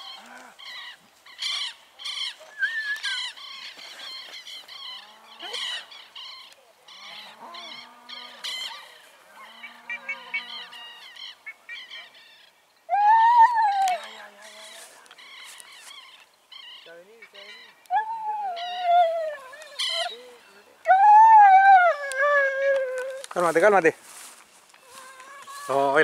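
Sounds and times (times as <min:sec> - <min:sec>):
birds harsh chirping calls: 0:00.0 - 0:21.3, 0:23.2 - 0:26.0.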